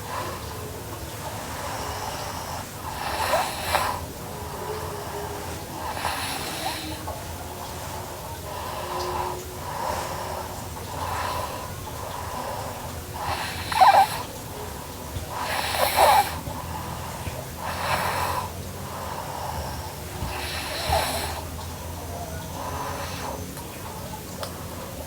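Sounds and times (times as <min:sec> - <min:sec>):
girl snoring: 0:01.4 - 0:07.2, 0:08.0 - 0:23.5.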